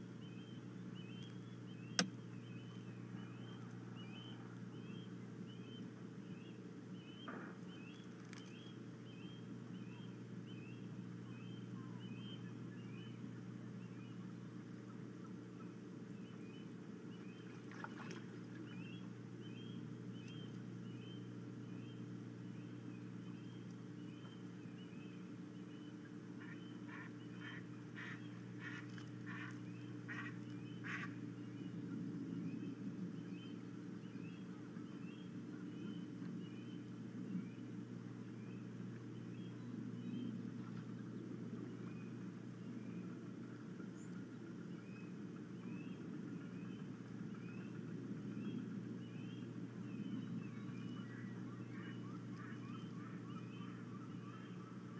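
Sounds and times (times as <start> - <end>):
low hum: 0.0 - 54.9.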